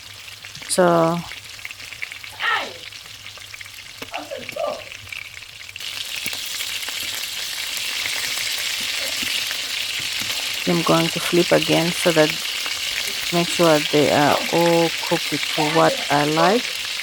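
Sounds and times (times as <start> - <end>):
chicken wings sizzling in oil: 0.0 - 17.0.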